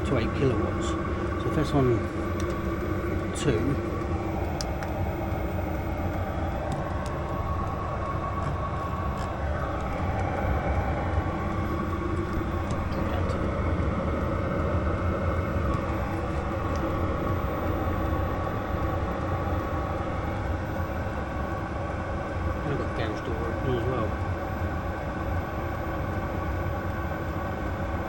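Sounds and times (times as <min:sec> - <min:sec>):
air heater combustion and fan rumble: 0:00.0 - 0:28.0.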